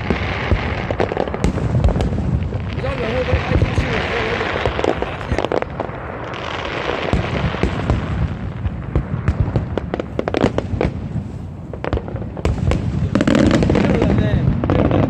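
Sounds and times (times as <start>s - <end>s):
fireworks crackling pops and bangs: 0.0s - 15.0s.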